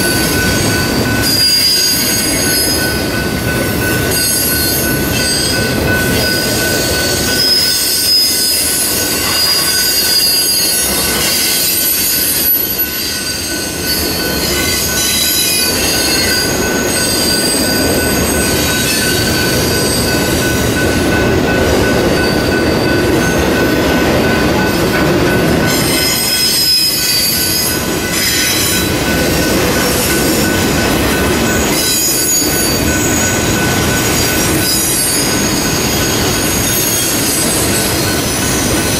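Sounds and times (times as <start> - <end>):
high wheel squeal: 0.0 - 3.0, 4.1 - 20.7, 25.6 - 30.8, 31.5 - 38.9
train wheels rumbling on rails: 0.0 - 38.9.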